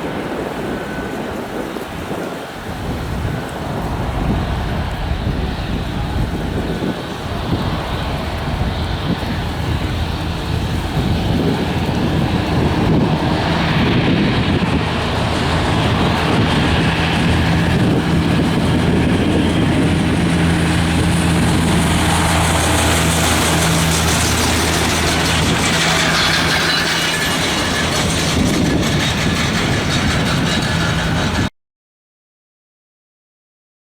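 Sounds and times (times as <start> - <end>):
jet engines humming: 0.0 - 31.5.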